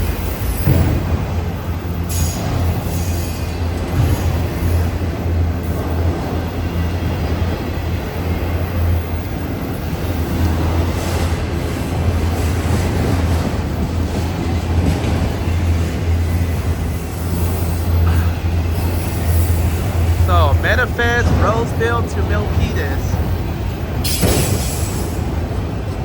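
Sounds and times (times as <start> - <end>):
wheels clattering on rail: 0.0 - 20.6, 22.4 - 26.0
freight train rumble: 0.0 - 26.0.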